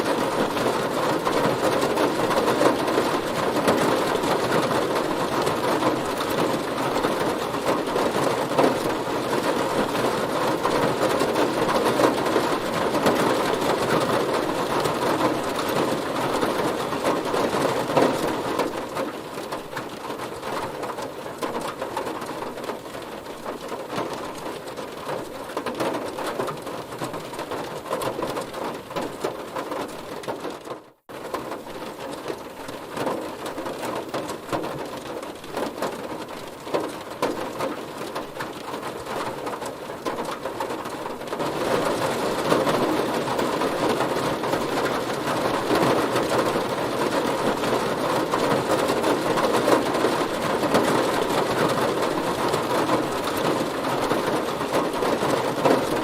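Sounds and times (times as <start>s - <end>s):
heavy rain drumming on car: 0.0s - 56.0s.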